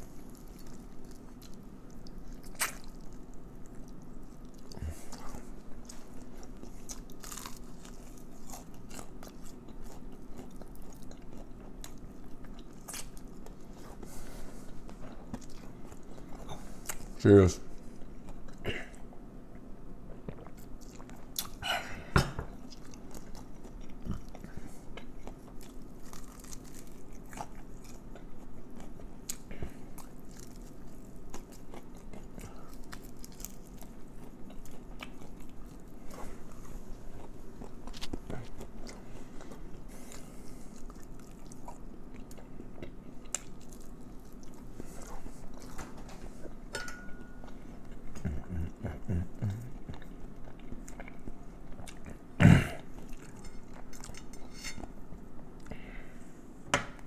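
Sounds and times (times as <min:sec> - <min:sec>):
chewing crispy food: 0:00.0 - 0:21.6, 0:22.6 - 0:55.8.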